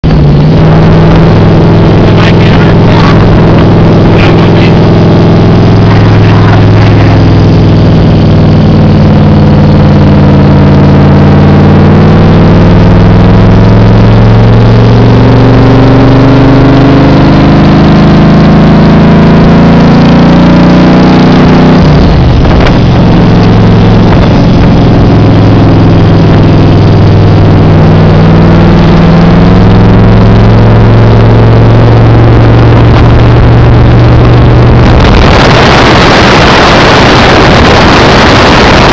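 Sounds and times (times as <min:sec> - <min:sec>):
car engine pulling: 0:00.0 - 0:17.0, 0:17.7 - 0:38.9.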